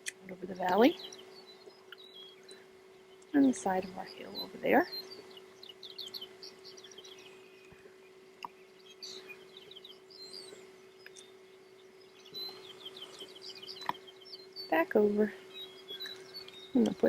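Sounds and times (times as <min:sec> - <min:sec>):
faint steady hum: 0:00.0 - 0:17.0
songbirds chirping: 0:00.0 - 0:17.0.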